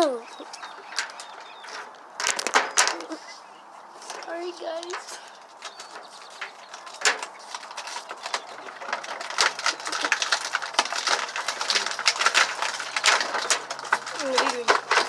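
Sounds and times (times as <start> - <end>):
plastic packaging crackling: 0.0 - 3.2, 4.0 - 15.0.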